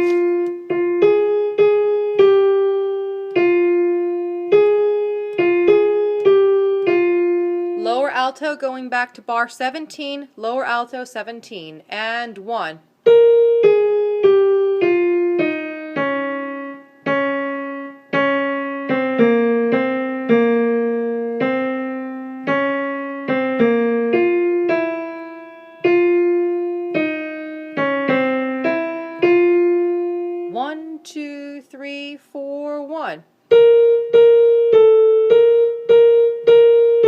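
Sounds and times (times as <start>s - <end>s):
piano single notes: 0.0s - 8.3s, 13.0s - 31.1s, 33.5s - 37.0s.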